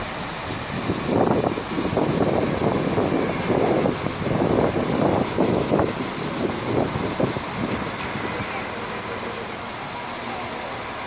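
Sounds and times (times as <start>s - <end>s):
train diesel engine running: 0.0s - 11.0s.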